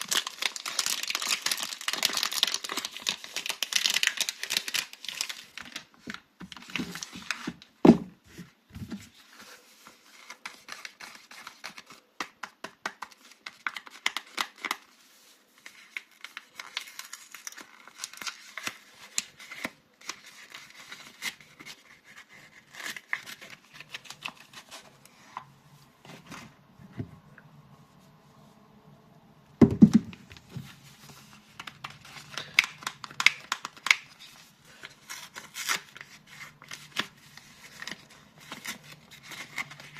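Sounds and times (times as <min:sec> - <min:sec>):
packaging crinkling and tearing: 0:00.0 - 0:07.7, 0:09.5 - 0:25.5, 0:29.9 - 0:39.9.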